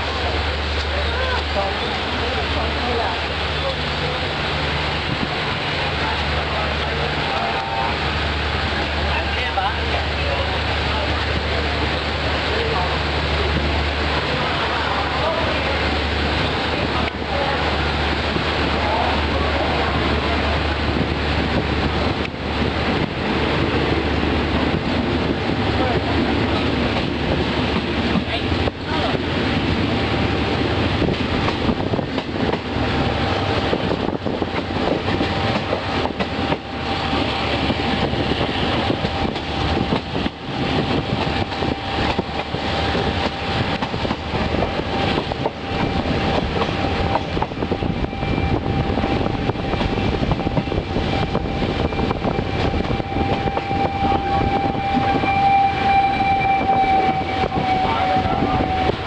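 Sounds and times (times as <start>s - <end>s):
train rumbling and clattering on rails: 0.0s - 59.0s.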